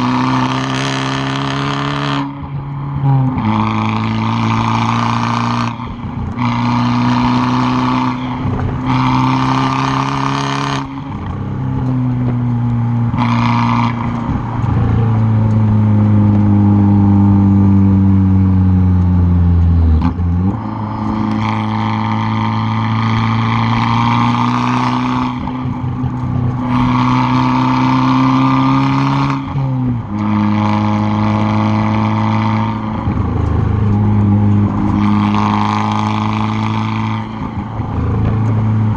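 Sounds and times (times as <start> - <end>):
car exhaust revving: 0.0 - 38.9.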